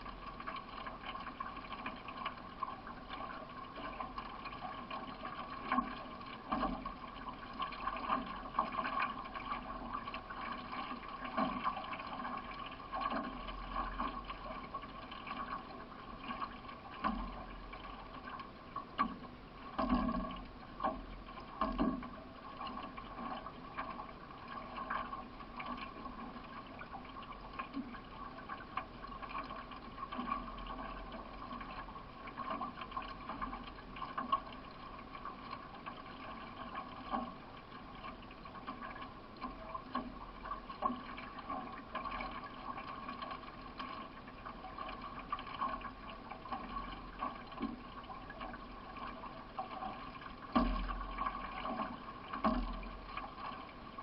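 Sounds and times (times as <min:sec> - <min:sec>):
water splashing along a hull: 0:00.0 - 0:54.0.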